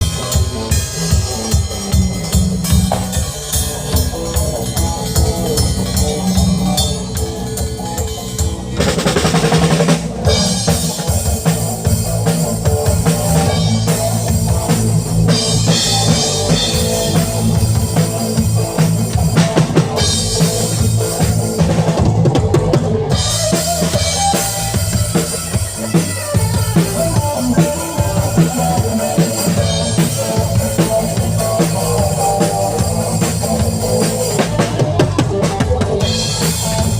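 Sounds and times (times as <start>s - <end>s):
drum kit playing: 0.0s - 36.9s.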